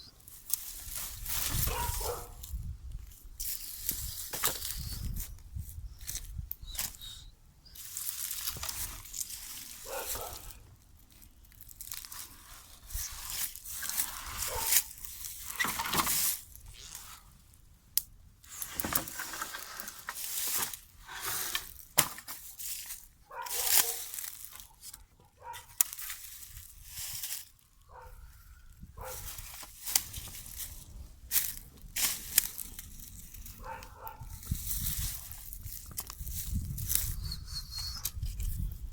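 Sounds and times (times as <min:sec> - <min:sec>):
dry material crunching and tearing: 0:00.3 - 0:07.0, 0:07.8 - 0:17.3, 0:18.4 - 0:25.0, 0:25.6 - 0:27.6, 0:29.0 - 0:37.2.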